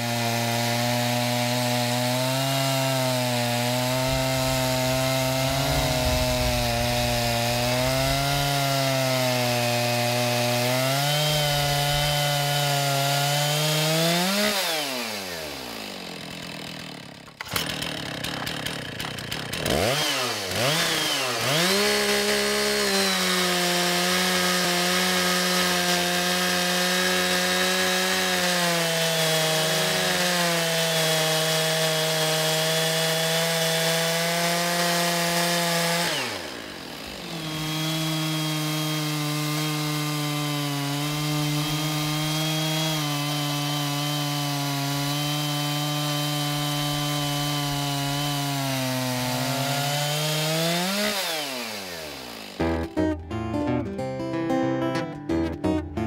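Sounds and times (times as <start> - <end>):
chainsaw ripping a log: 0.0 - 53.0.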